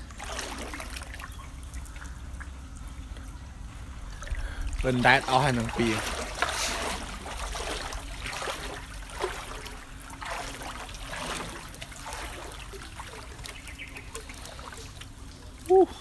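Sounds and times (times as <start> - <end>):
shallow water sloshing and trickling: 0.0 - 16.0.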